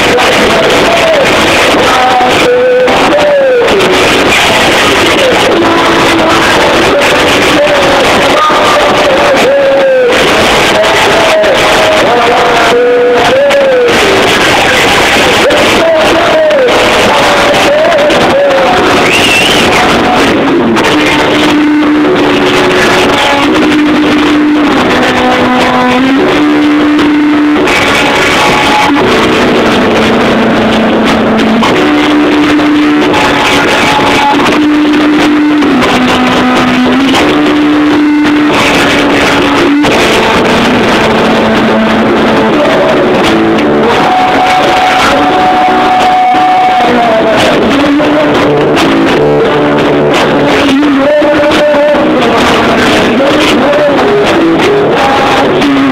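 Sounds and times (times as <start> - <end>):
electric guitar riff: 0.0 - 55.9
punk rock band playing live: 0.0 - 55.9.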